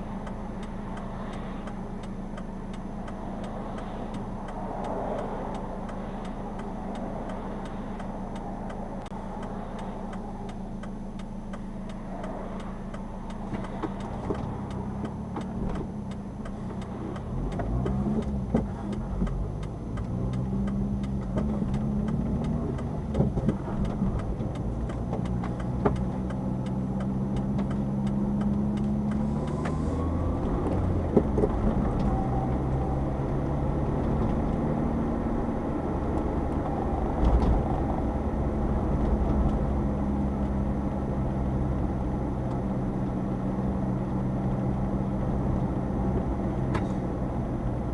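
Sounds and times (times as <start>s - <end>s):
small car engine idling and accelerating: 0.0s - 47.9s.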